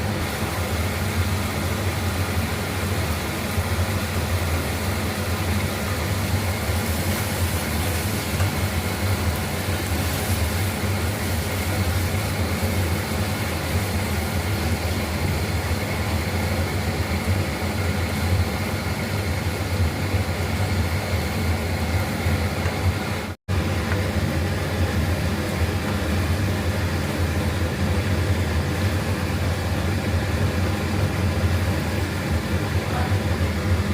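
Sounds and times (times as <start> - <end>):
machine hum with whirring hiss: 0.0 - 33.9.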